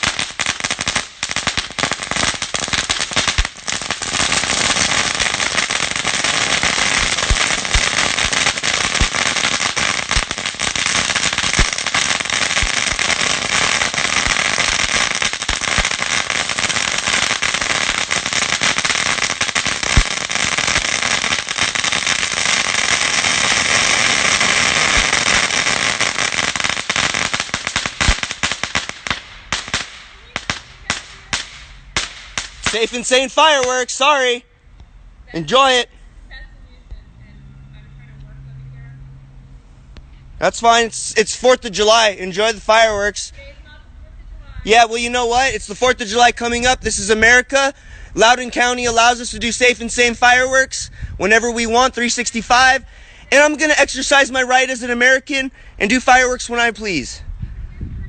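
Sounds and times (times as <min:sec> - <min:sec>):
fireworks crackling: 0:00.0 - 0:34.4, 0:35.3 - 0:36.4, 0:40.4 - 0:57.2.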